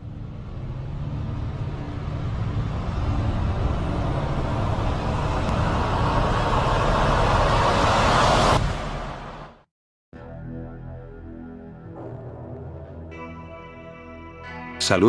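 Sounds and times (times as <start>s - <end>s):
low rumble: 0.0s - 9.6s, 11.2s - 14.6s.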